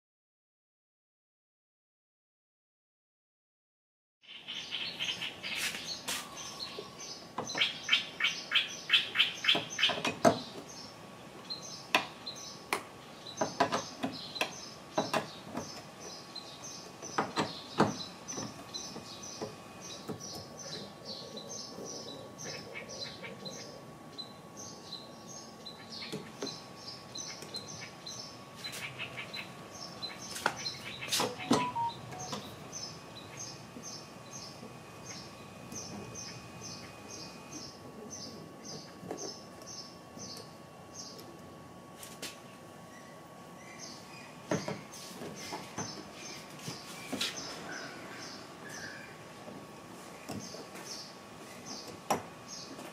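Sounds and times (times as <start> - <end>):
small birds chirping: 4.2 - 41.4, 42.5 - 49.2, 50.1 - 52.8.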